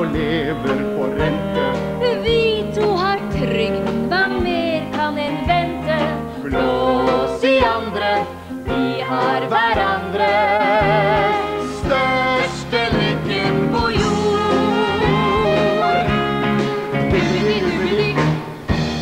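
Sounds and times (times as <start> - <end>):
band playing: 0.0 - 19.0
woman singing: 2.0 - 16.2, 17.1 - 18.4.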